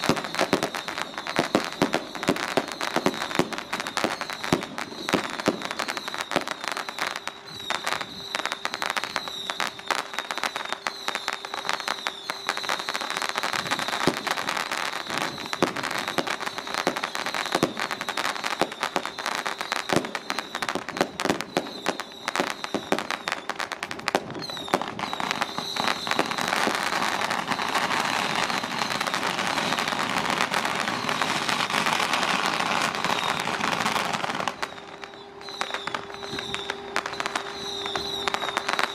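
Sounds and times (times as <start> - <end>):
firecrackers crackling: 0.0 - 38.9.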